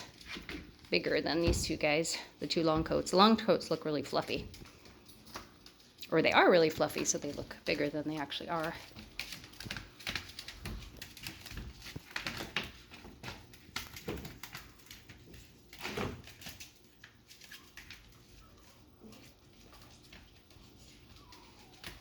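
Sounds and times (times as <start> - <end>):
small paws scuffling on floor: 4.0 - 22.0.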